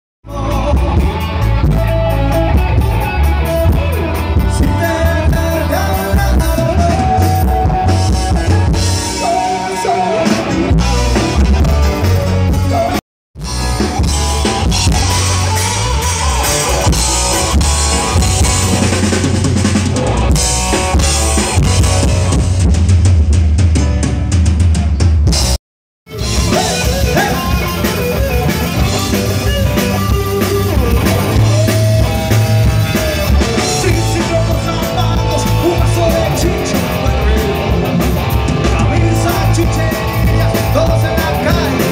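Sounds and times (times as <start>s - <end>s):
drum kit: 0.2s - 41.9s
electric guitars: 0.2s - 41.9s
keyboard: 0.3s - 41.9s.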